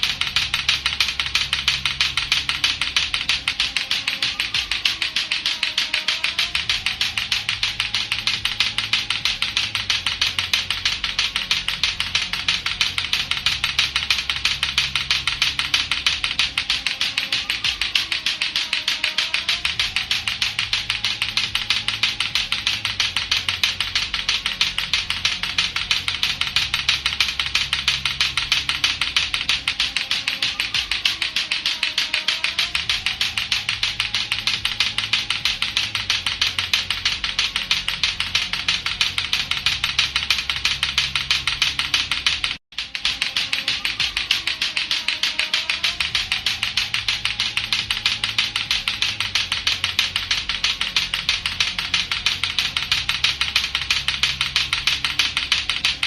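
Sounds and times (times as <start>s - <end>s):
clacker toy balls clacking: 0.0s - 56.0s.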